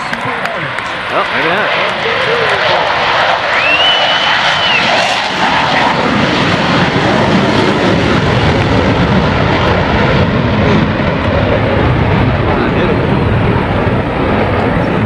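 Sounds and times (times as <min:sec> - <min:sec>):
jet flying over: 0:00.0 - 0:15.0.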